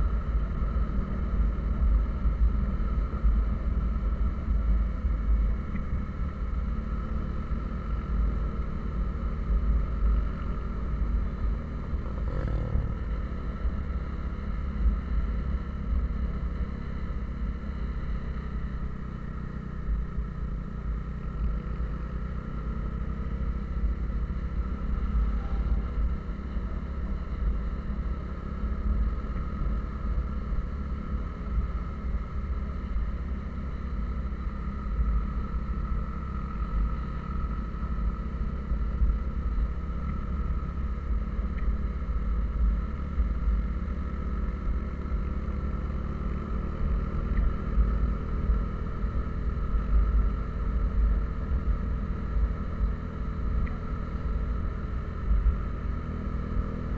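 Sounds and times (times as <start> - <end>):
vehicle engine and road noise: 0.0 - 56.9.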